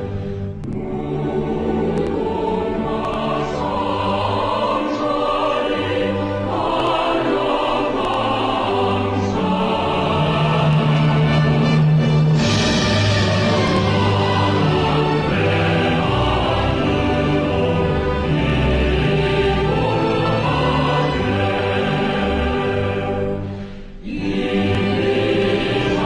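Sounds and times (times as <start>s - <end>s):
choir with orchestra: 0.0s - 26.0s.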